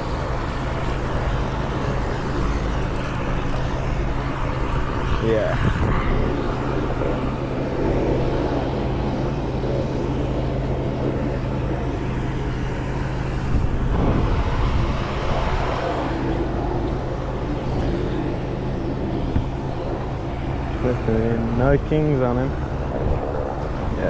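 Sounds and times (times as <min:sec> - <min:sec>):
low engine drone: 0:00.0 - 0:24.0
rushing outdoor noise: 0:00.0 - 0:24.0.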